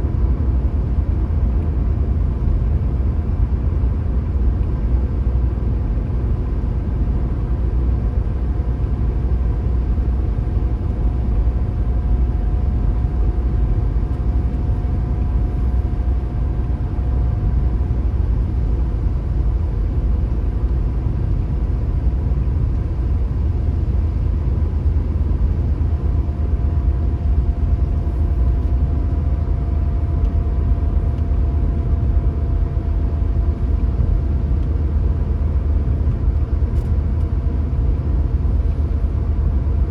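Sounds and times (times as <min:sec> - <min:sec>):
car engine and tyres rumbling: 0:00.0 - 0:39.9
faint steady whine: 0:00.0 - 0:39.9.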